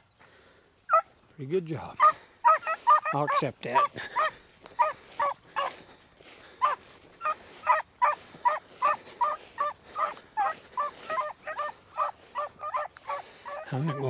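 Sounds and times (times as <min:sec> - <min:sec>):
beagles baying: 0:00.8 - 0:01.2, 0:01.8 - 0:14.0.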